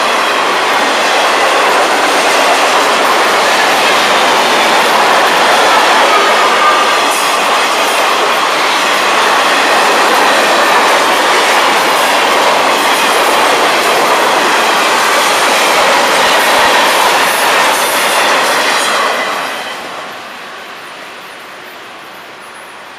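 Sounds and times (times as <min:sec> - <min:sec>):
freight train wheels clattering: 0:00.0 - 0:20.0.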